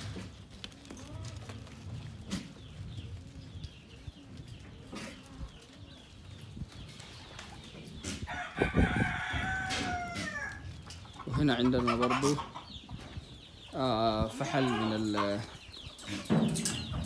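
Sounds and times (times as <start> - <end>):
birds cooing and clucking: 0.0 - 17.0.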